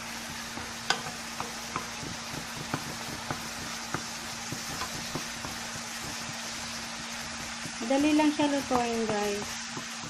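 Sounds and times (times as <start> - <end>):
garlic sizzling in butter: 0.0 - 10.0.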